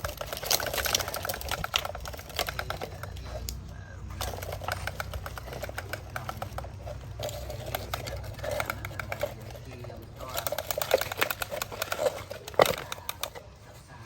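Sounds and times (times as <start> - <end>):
rapid irregular clicks: 0.0 - 14.0
toy motor and gears whirring: 0.0 - 14.0.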